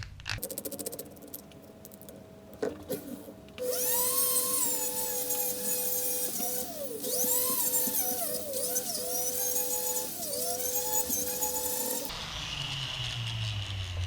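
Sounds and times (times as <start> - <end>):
grinder whining: 0.4 - 12.1.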